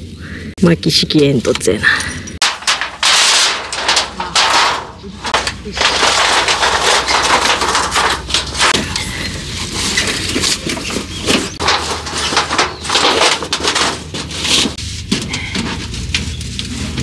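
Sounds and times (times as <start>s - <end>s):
thin metal sheet crinkling: 2.4s - 17.0s.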